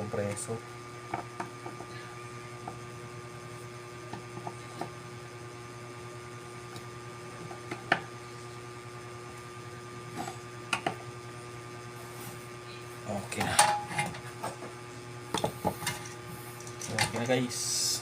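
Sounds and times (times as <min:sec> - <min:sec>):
air conditioner compressor hum: 0:00.0 - 0:18.0.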